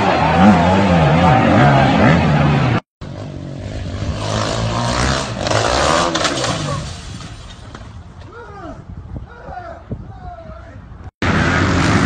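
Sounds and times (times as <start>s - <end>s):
dirt bike engines revving: 0.0s - 9.1s, 10.8s - 12.0s.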